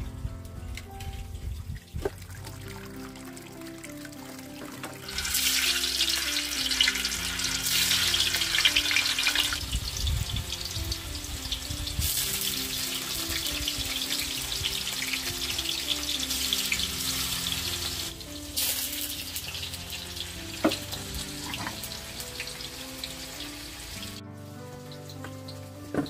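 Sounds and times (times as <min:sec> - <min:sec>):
soft background music: 0:00.0 - 0:26.0
hot oil sizzling in a pan: 0:02.9 - 0:26.0.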